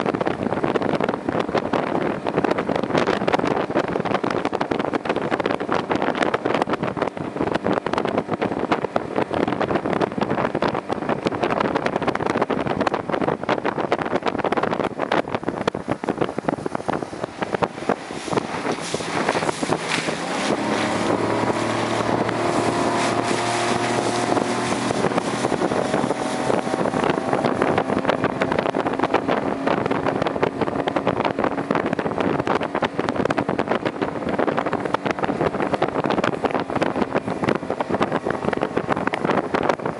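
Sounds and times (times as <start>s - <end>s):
motorboat engine running: 0.0s - 39.9s
water rushing: 0.0s - 39.9s
wind buffeting the microphone: 0.0s - 39.9s.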